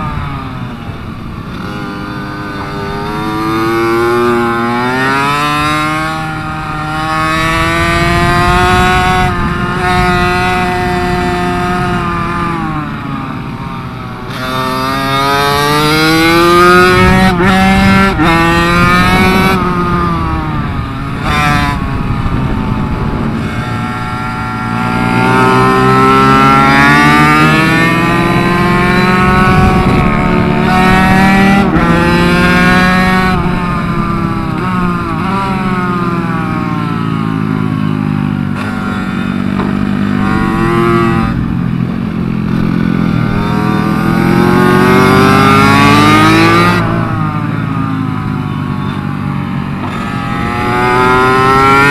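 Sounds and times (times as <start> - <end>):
minibike engine revving: 0.0 - 51.9.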